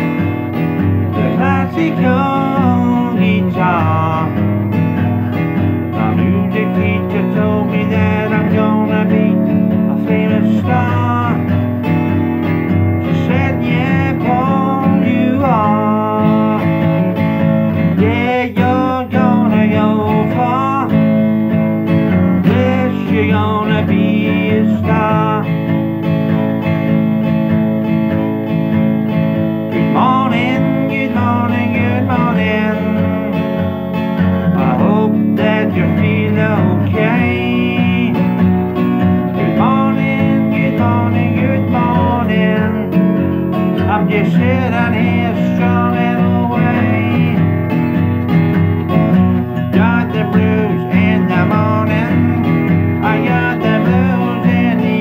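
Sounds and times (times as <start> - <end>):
man singing: 0.0 - 25.8, 29.7 - 55.0
strummed acoustic guitar: 0.0 - 55.0.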